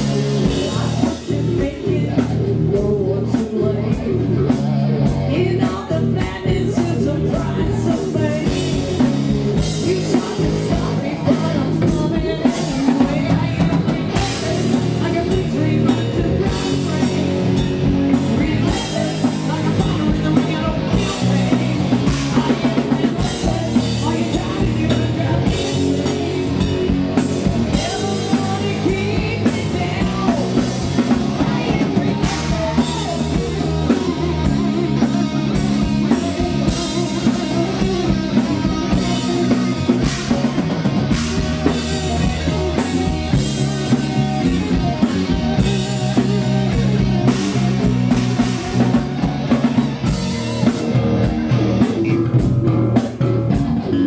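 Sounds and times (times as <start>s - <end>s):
woman singing: 0.0s - 49.2s
drum kit: 0.0s - 54.0s
electric bass: 0.0s - 54.0s
electric guitar: 0.0s - 54.0s.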